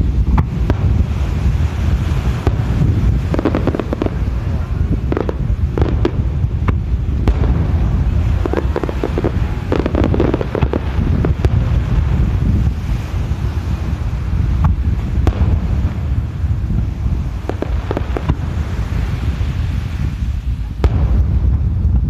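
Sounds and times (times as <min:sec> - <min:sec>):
fireworks bursting and crackling: 0:00.0 - 0:22.0
wind buffeting microphone: 0:00.0 - 0:22.0.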